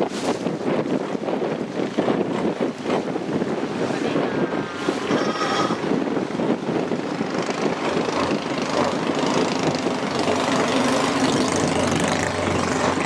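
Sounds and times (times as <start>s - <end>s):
boat engine chugging: 1.8s - 13.0s.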